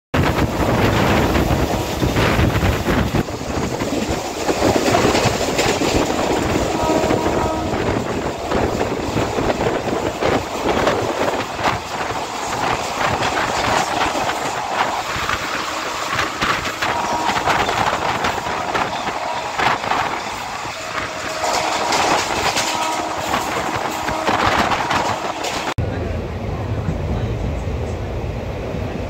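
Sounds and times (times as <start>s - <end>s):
steady rushing noise: 0.1s - 29.0s
train wheels clattering: 0.2s - 25.8s.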